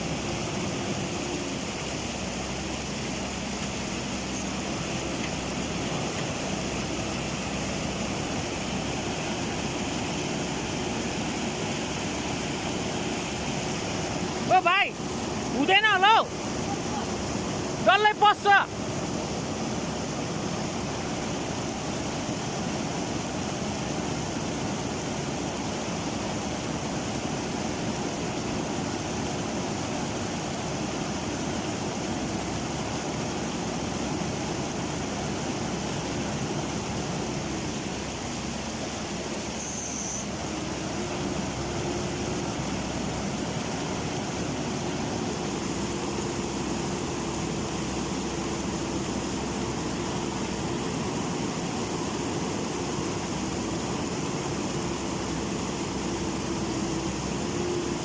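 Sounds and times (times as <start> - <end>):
faint digger engine: 0.0 - 58.0
river rushing: 0.0 - 58.0.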